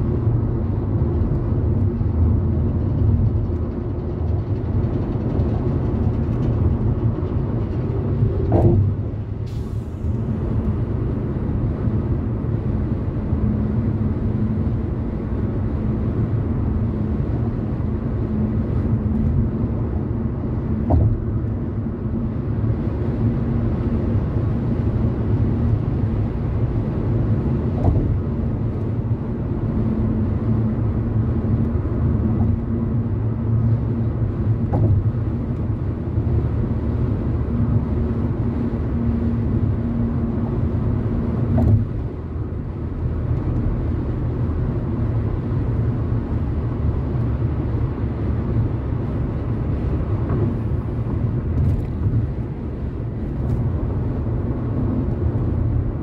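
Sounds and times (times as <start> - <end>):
tyre and road rumble: 0.0 - 56.0.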